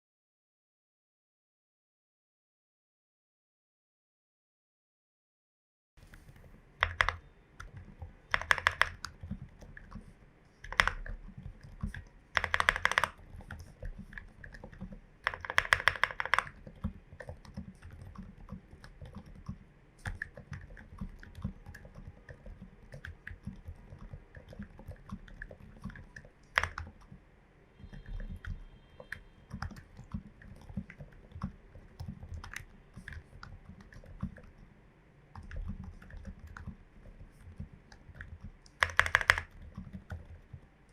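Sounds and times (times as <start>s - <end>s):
mechanical keyboard typing: 6.1s - 27.2s, 27.8s - 34.7s, 35.4s - 40.8s.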